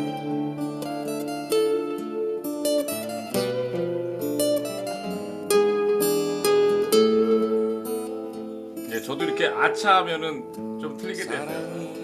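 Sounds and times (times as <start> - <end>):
acoustic guitar solo melody: 0.0 - 12.0
guitar backing track chords: 0.0 - 12.0.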